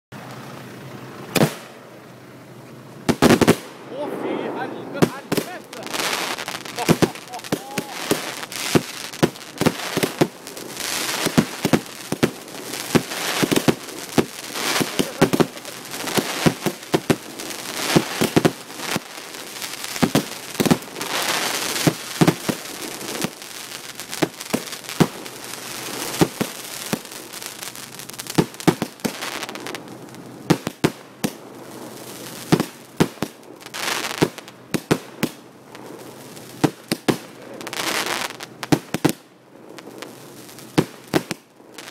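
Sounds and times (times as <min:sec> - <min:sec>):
fireworks crackling: 0:00.2 - 0:41.9
fireworks bangs: 0:01.3 - 0:01.8, 0:03.0 - 0:41.9.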